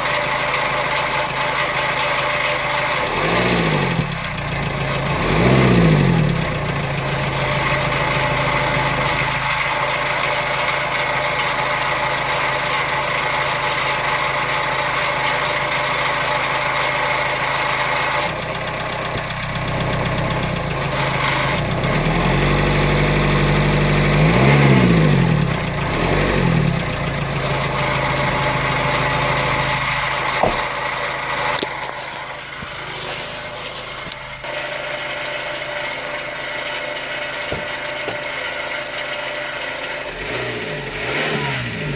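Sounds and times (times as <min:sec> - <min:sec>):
diesel engine idling and revving: 0:00.0 - 0:41.9.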